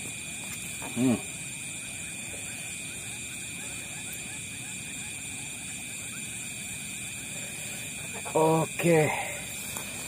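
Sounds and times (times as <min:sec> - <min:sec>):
faint insect chirps: 0:00.0 - 0:10.0
insects trilling: 0:00.0 - 0:10.0.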